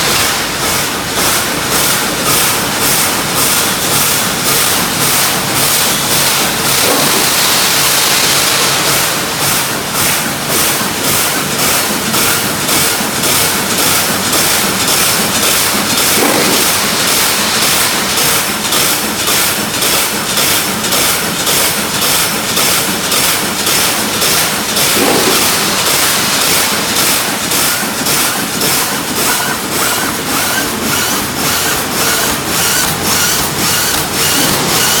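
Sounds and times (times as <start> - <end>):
welding machine clattering: 0.0 - 35.0.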